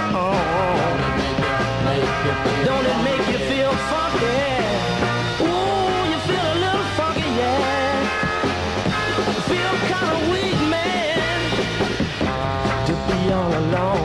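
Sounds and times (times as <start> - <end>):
person singing: 0.0 - 8.5, 9.2 - 14.0
bass: 0.0 - 14.0
drums: 0.0 - 14.0.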